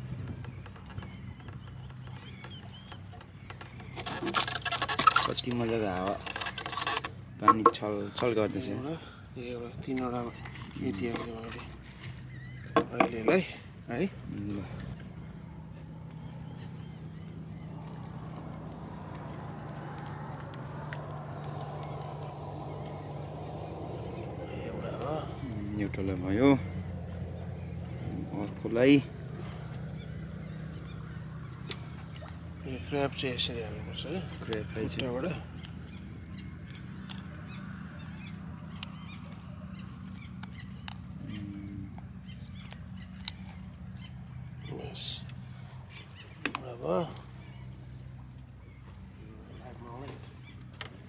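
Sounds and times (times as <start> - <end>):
low engine hum: 0.0 - 51.0
low rumble of wind and water: 0.0 - 51.0.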